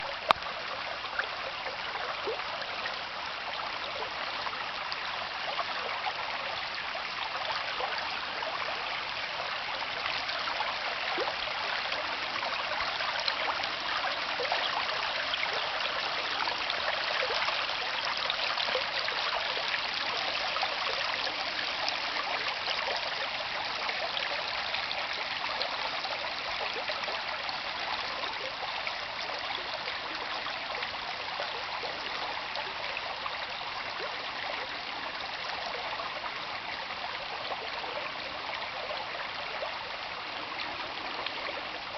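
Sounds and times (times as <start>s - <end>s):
creek babbling over rocks: 0.0s - 41.9s.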